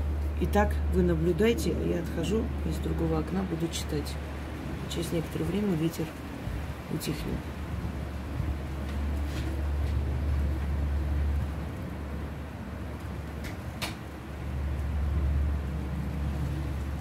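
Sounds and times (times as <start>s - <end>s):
gusty wind rumbling: 0.0s - 17.0s.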